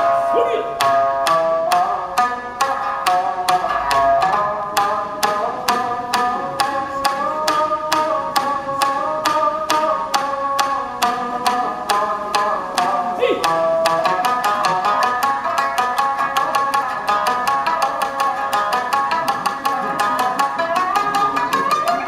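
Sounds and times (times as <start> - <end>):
shamisen played with plectrum: 0.0 - 22.0.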